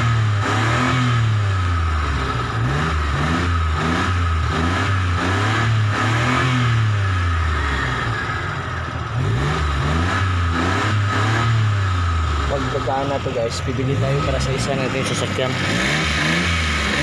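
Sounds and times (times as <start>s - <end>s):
van engine revving: 0.0s - 17.0s.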